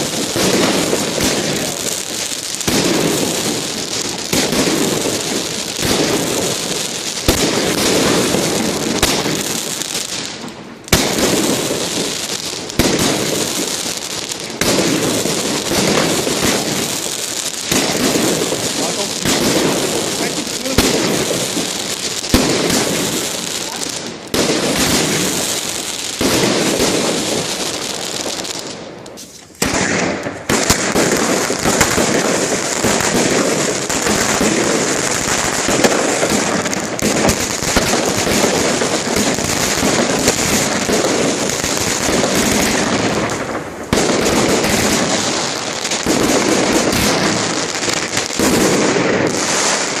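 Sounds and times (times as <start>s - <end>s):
fireworks crackling and banging: 0.0s - 50.0s.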